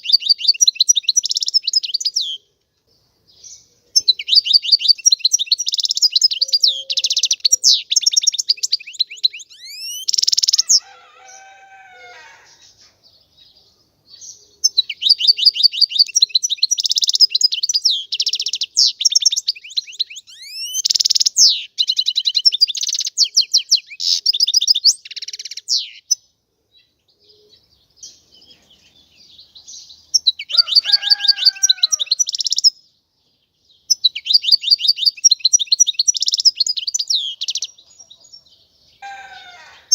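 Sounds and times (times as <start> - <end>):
bird twittering trills: 3.3 - 32.9, 33.6 - 39.9.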